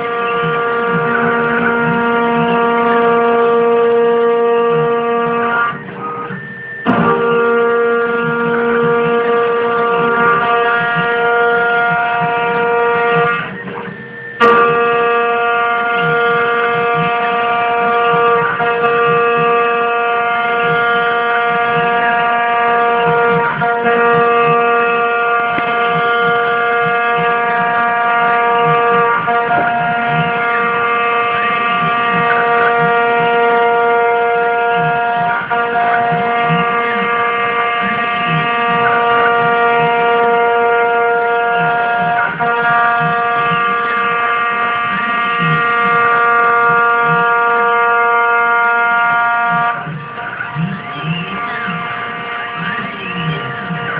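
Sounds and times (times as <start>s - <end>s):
end mill cutting metal: 0.0s - 53.9s
spindle whining: 0.0s - 53.9s.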